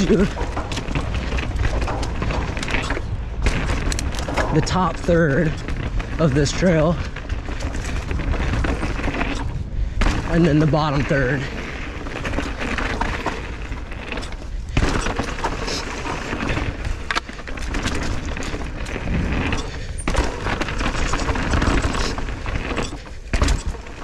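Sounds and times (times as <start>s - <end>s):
bike knocks and clatters: 0.0s - 24.0s
bike tyres over dirt and rock: 0.0s - 24.0s
steady rushing noise: 0.0s - 24.0s.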